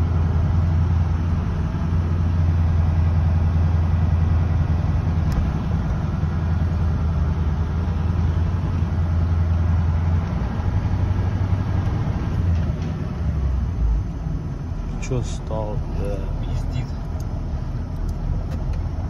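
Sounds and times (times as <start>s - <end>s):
truck engine running low: 0.0s - 19.0s.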